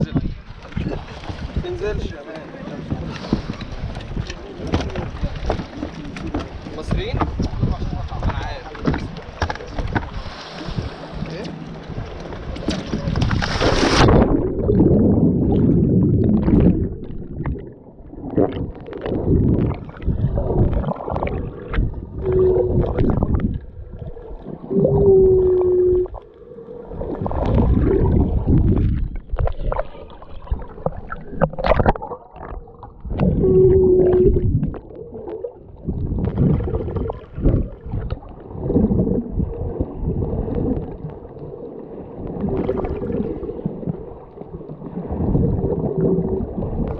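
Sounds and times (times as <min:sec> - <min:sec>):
underwater rushing and bubbling: 0:00.0 - 0:46.9.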